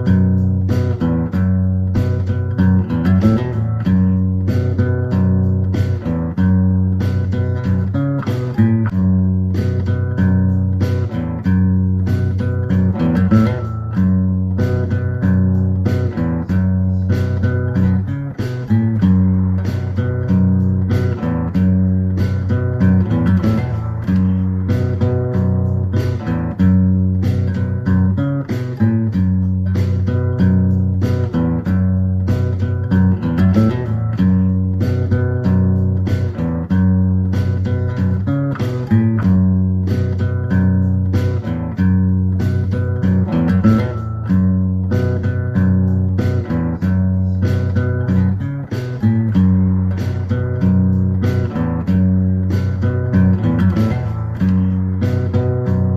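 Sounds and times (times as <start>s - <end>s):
bass line: 0.0s - 55.9s
plucked guitar: 0.0s - 55.9s
steady beat: 0.0s - 55.9s.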